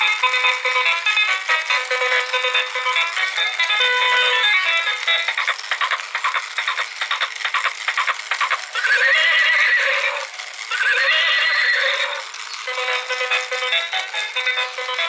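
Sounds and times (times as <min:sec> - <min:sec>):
toy hoofbeat clip-clop: 0:00.0 - 0:15.0
toy horse whinnies: 0:00.0 - 0:15.0.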